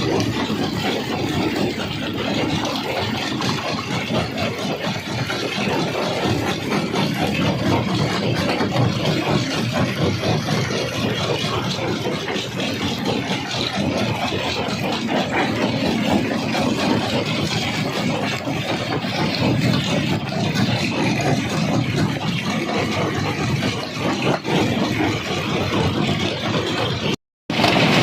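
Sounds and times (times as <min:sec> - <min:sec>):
jaw crusher machinery drone: 0:00.0 - 0:28.0.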